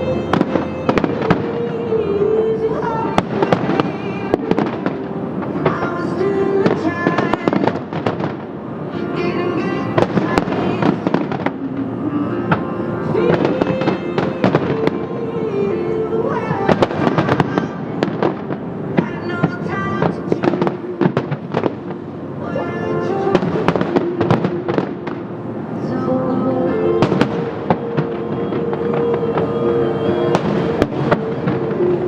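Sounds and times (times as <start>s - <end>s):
fireworks bangs and crackles: 0.0s - 2.0s, 2.8s - 15.0s, 16.2s - 25.4s, 27.0s - 32.0s
music with held notes: 0.0s - 32.0s.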